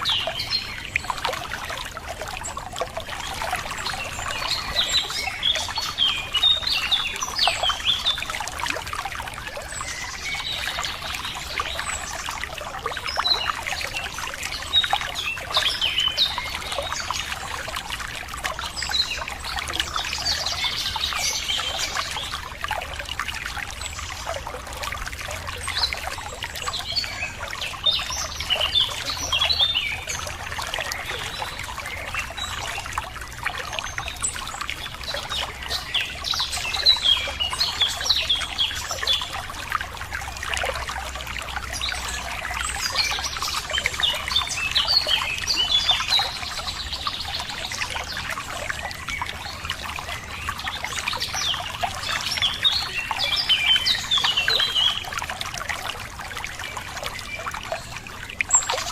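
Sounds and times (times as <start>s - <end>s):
water trickling and pouring: 0.0s - 58.9s.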